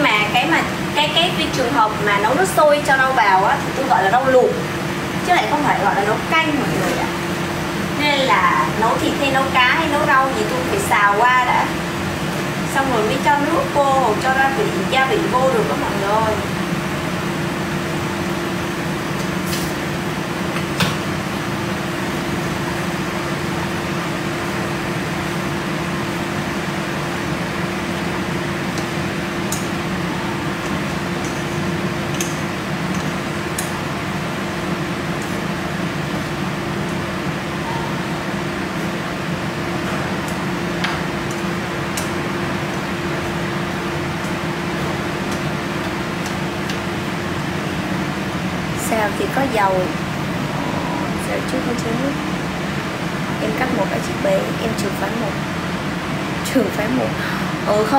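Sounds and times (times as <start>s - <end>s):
extractor fan humming: 0.0s - 57.9s.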